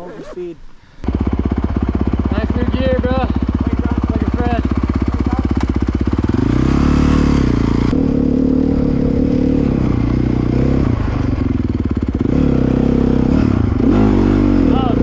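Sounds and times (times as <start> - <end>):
dirt bike engine revving: 1.0 - 15.0.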